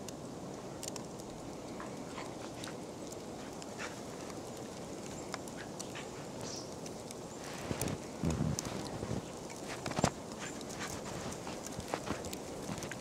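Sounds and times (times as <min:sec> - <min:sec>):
outdoor hiss: 0:00.0 - 0:13.0
dogs crunching through snow: 0:01.7 - 0:13.0.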